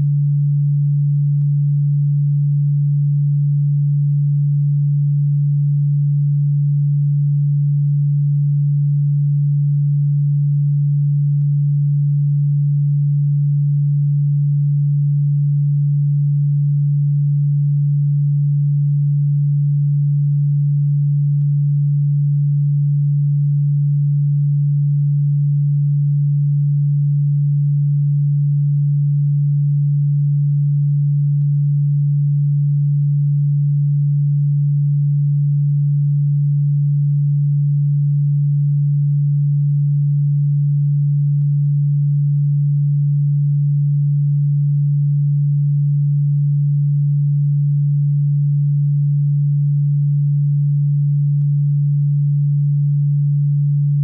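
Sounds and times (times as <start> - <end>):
low electronic sine tone: 0.0 - 54.0.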